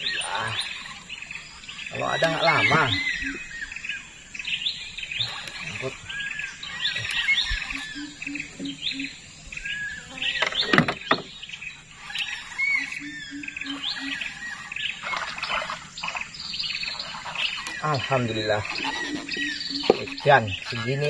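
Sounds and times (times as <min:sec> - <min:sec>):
low hooting call: 0:00.0 - 0:10.4, 0:11.9 - 0:21.0
wild birds chirping: 0:00.0 - 0:21.0.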